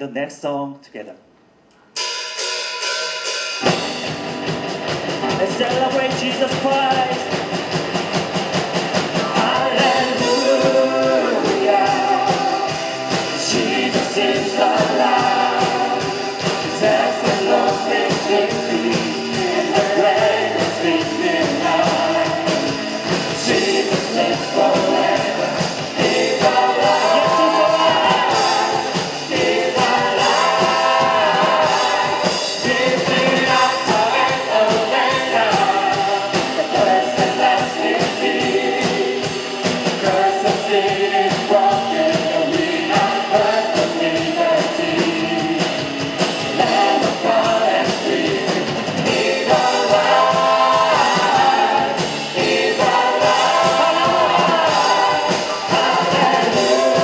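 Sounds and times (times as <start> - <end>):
praise band playing: 2.0 - 57.0
steady drum beat: 2.0 - 57.0
group of voices singing: 5.2 - 57.0.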